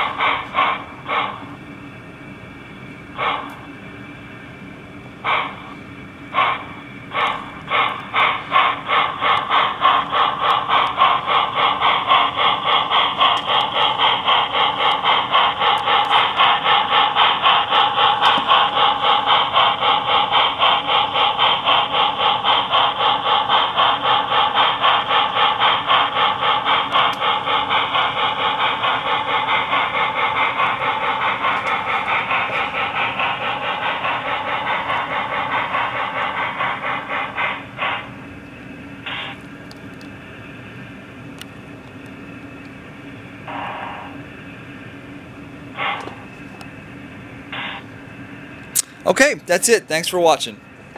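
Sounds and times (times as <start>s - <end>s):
electronic steam locomotive chuffs: 0.0s - 50.9s.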